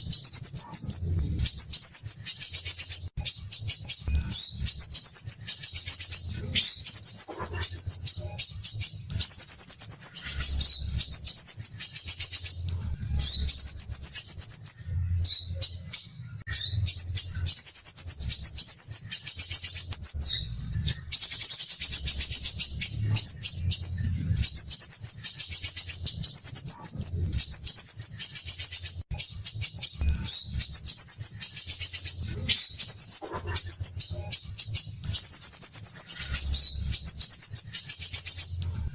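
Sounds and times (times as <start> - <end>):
bird singing rasping trills: 0.0 - 38.9.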